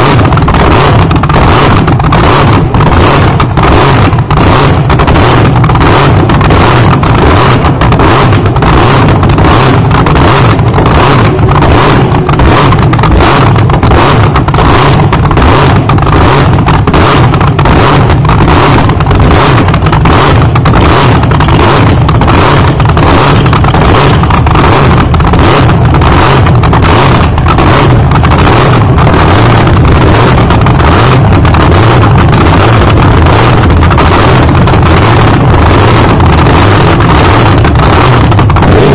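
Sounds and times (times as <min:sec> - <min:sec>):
dragster engine idling: 0:00.0 - 0:38.9.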